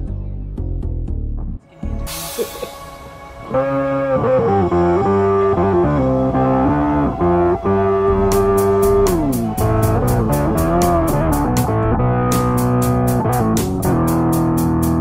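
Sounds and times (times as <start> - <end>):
bass line: 0.0 - 15.0
guitar melody with bent notes: 1.7 - 15.0.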